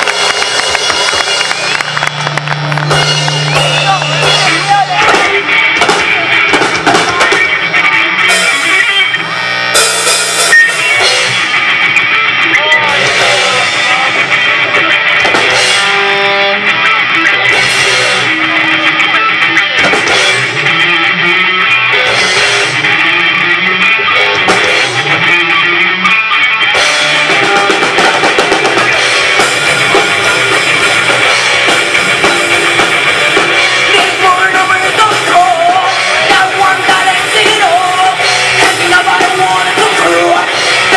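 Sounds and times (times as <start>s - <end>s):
instrumental rock band: 0.0s - 40.9s.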